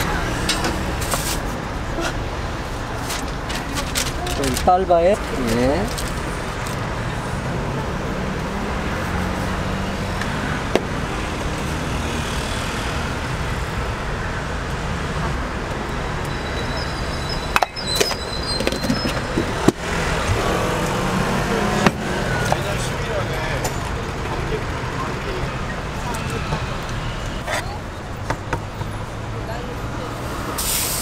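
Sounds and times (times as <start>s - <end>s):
street traffic noise: 0.0s - 31.0s.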